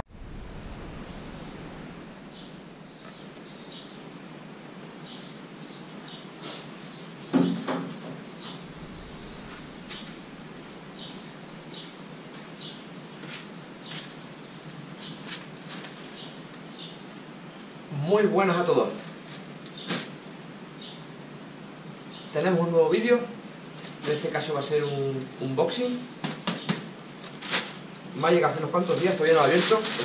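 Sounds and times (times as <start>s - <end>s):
outdoor ambience: 0.0s - 30.0s
small birds chirping: 0.4s - 4.2s, 5.0s - 18.2s, 19.6s - 21.1s, 22.0s - 23.1s, 23.7s - 30.0s.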